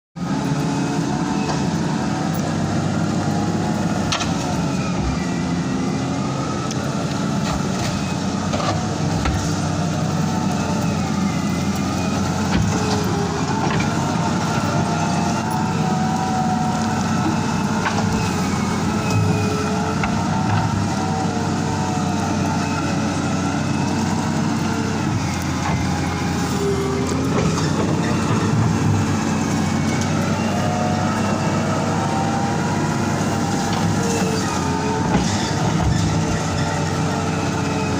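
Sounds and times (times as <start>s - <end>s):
wheel loader diesel engine running: 0.2s - 37.9s.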